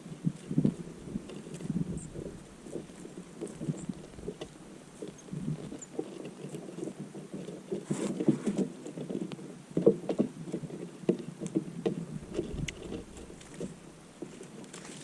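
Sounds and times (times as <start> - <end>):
birds pecking and tapping: 0.0 - 15.0.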